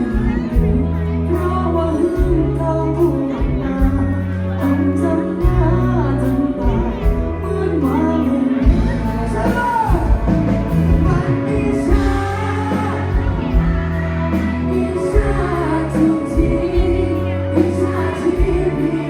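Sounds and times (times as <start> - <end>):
live band playing pop music: 0.0 - 19.0
person singing: 0.0 - 19.0.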